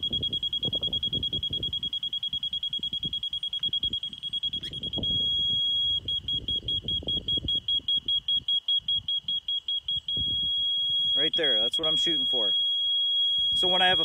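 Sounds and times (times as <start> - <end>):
laser receiver beeping: 0.0 - 14.0
solid electronic tone: 0.0 - 14.0.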